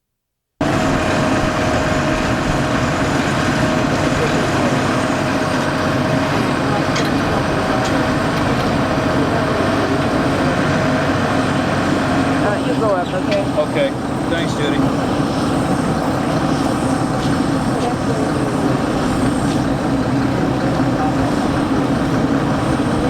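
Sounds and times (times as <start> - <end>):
helicopter running: 0.6 - 23.0.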